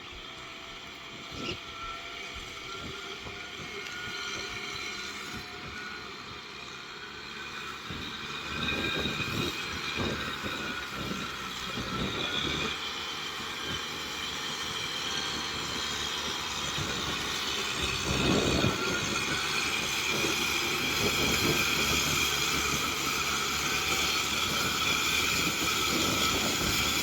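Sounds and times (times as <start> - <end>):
mechanical whine: 0.0 - 27.0
tractor diesel engine running: 0.0 - 27.0.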